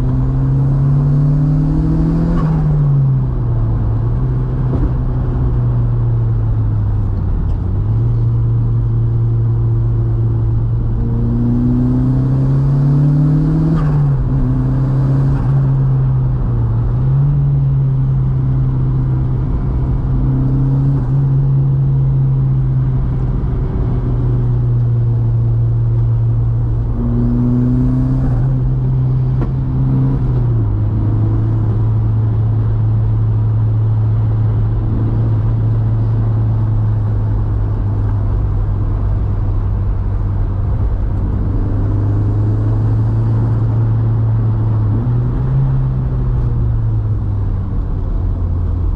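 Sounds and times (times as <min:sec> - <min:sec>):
car engine revving under load: 0:00.0 - 0:48.9.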